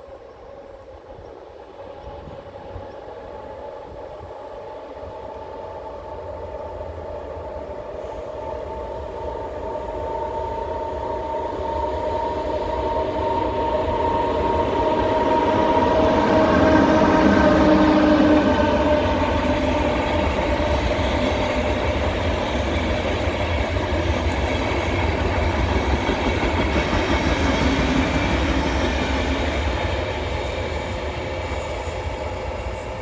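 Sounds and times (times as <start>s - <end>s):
electric locomotive whine: 0.0s - 33.0s
train rumble: 0.0s - 33.0s.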